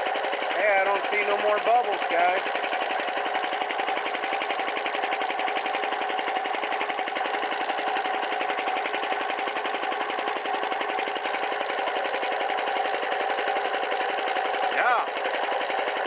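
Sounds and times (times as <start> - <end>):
piston air compressor running: 0.0 - 16.0.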